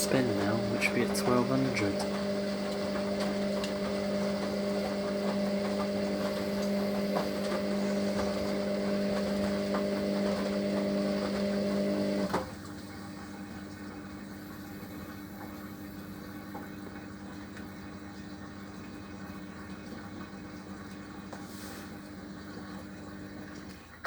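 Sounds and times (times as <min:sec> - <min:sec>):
drain pump humming: 0:00.0 - 0:24.0
faint machine hum: 0:00.0 - 0:24.0.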